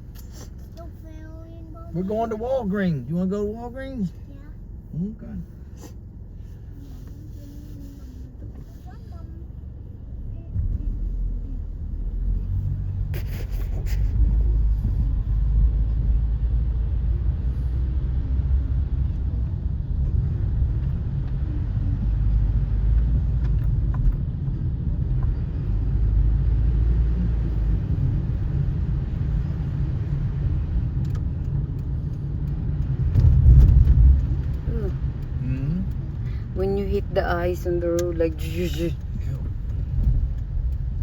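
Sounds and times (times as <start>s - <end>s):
car driving rumble from inside: 0.0s - 41.0s
tyres on slushy road: 0.0s - 41.0s.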